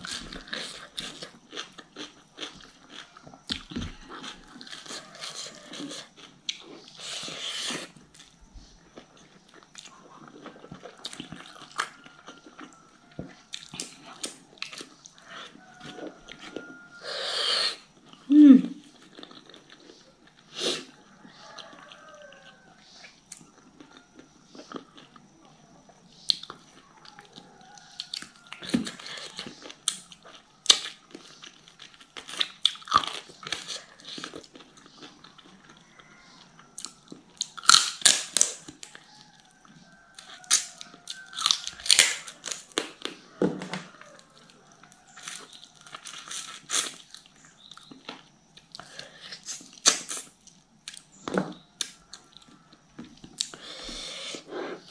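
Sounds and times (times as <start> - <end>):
close-miked chewing and crunching: 0.0 - 54.9.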